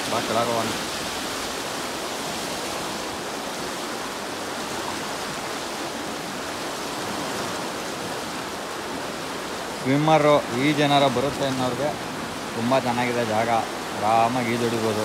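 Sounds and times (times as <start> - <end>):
turbulent water rushing: 0.0 - 15.0.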